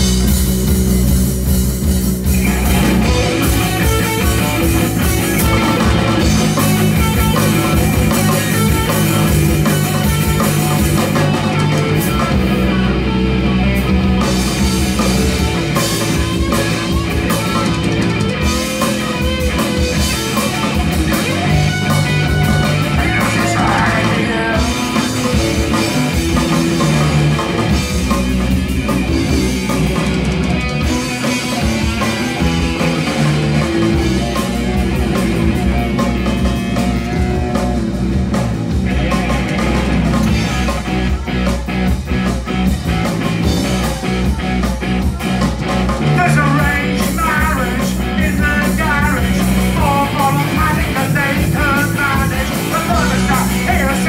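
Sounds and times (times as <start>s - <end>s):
punk rock band playing live: 0.0s - 54.0s.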